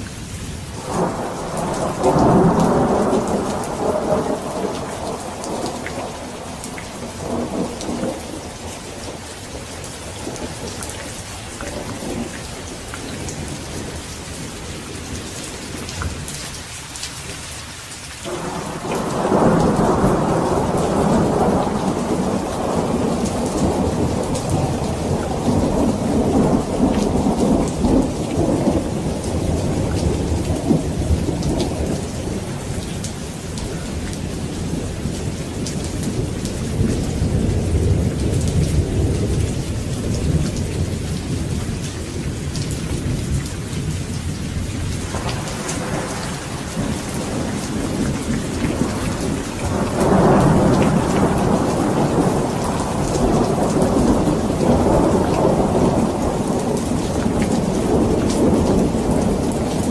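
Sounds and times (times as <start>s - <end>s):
heavy rain: 0.0s - 59.9s
rolling thunder: 0.8s - 16.4s, 18.3s - 59.9s.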